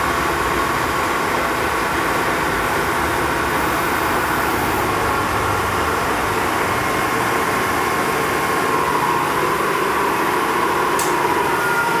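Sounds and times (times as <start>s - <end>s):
milling machine humming and whining: 0.0s - 12.0s.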